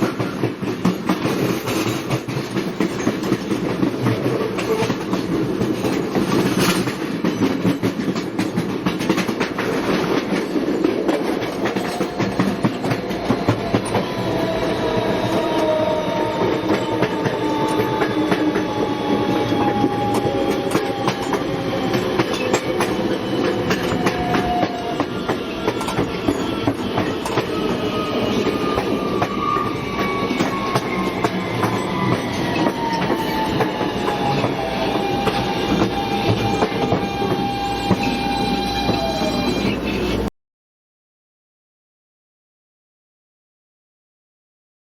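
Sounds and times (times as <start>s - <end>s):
clickety-clack of wheels: 0.0s - 15.8s, 16.4s - 40.2s
subway train rumble: 0.0s - 40.3s.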